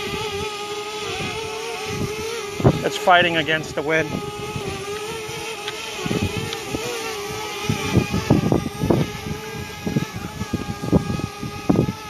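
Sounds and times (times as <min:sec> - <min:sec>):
drone propellers whining: 0:00.0 - 0:12.0
wind gusts buffeting microphone: 0:00.0 - 0:12.0.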